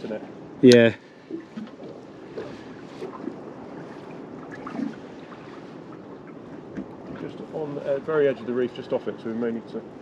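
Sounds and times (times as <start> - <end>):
water lapping boat: 0.0 - 10.0
wind: 0.0 - 10.0.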